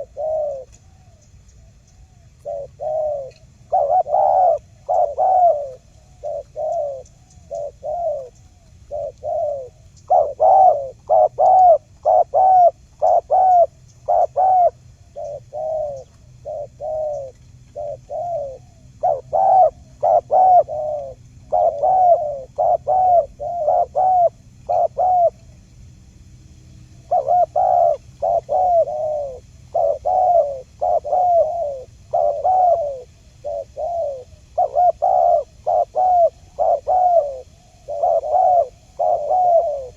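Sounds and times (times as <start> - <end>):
dove cooing: 0.0 - 25.8, 26.8 - 39.9
faint low hum: 0.0 - 39.9.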